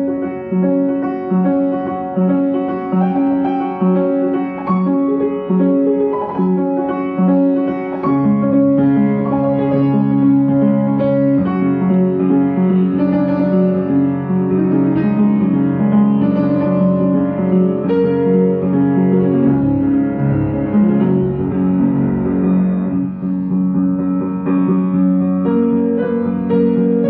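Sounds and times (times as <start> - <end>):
slow calm piano piece: 0.0 - 27.0.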